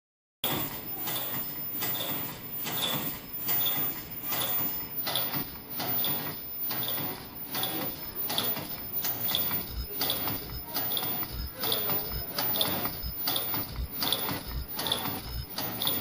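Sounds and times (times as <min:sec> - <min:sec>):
machine clicking and clattering: 0:00.4 - 0:16.0.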